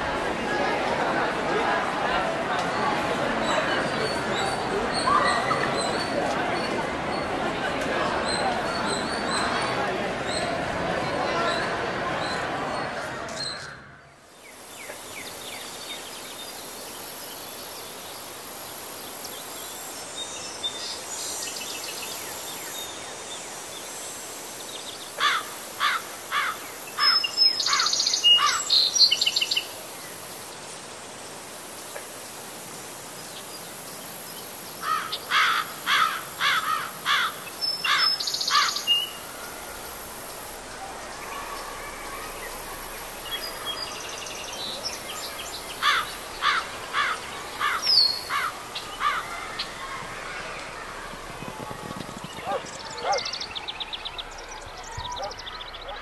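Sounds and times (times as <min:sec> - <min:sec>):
steady high hiss: 0:00.0 - 0:56.0.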